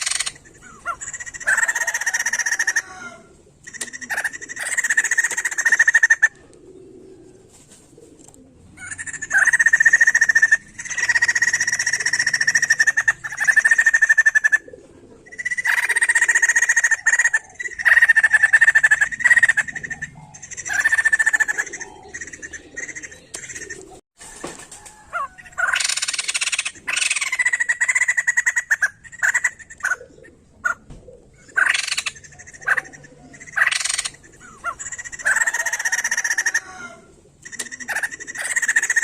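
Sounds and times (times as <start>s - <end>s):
bird calling in rapid chatter: 0.0s - 6.4s, 8.8s - 14.7s, 15.3s - 24.0s, 25.1s - 30.8s, 31.5s - 39.0s.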